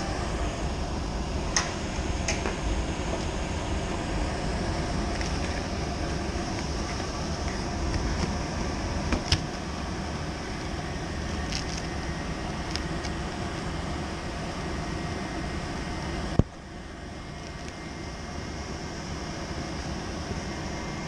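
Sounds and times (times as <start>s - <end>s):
fan blower rushing: 0.0s - 21.0s.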